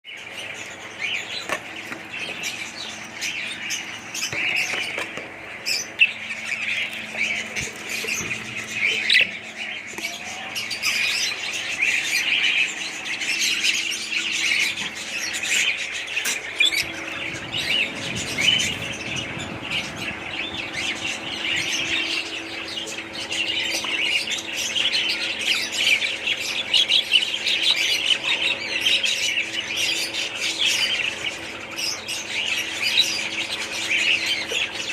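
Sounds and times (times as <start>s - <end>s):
budgerigars chattering: 0.1s - 34.9s.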